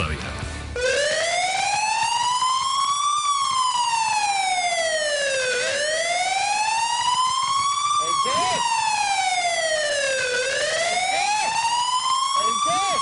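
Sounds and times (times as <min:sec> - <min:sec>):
fire engine siren wailing: 0:00.8 - 0:13.0.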